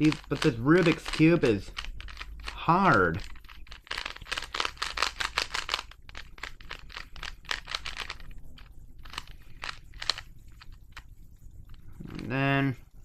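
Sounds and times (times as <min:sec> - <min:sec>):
plastic puzzle cube clicking: 0:00.0 - 0:10.7.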